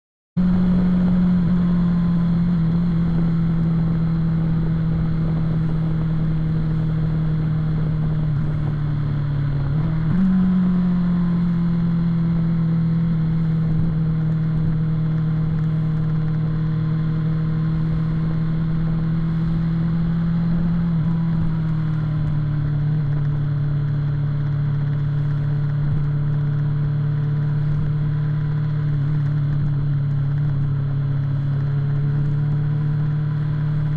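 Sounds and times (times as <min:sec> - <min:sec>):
motorcycle engine cruising: 0:00.4 - 0:33.9.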